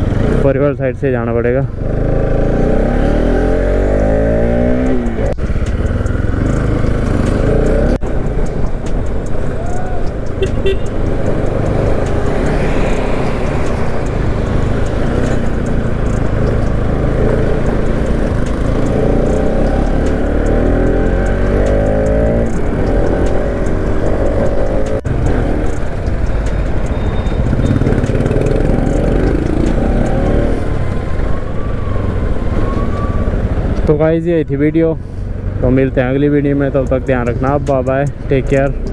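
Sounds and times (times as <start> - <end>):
motorcycle engine revving: 0.0 - 0.6, 1.5 - 34.2.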